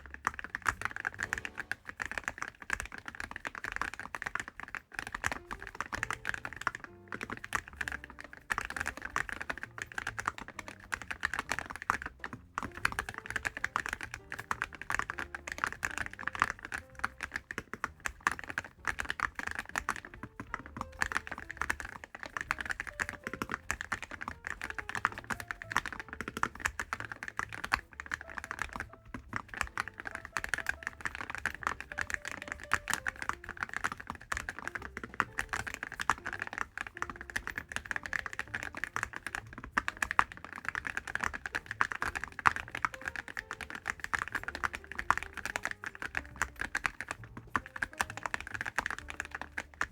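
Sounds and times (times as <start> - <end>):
fast typing on mechanical keyboard: 0.0 - 49.9.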